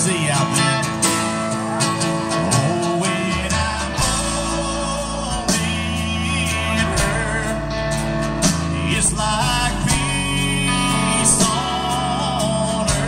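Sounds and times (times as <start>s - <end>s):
live country band with guitar: 0.0s - 13.0s.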